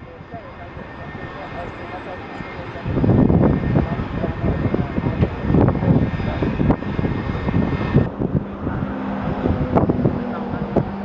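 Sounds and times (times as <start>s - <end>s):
jet engines whining: 0.0s - 11.0s
wind on microphone: 0.0s - 11.0s.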